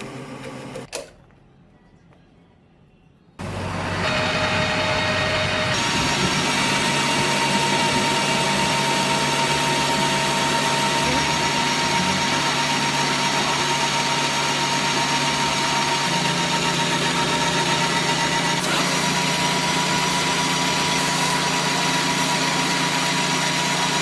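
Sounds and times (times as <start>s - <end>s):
power tool motor humming: 3.4s - 24.0s.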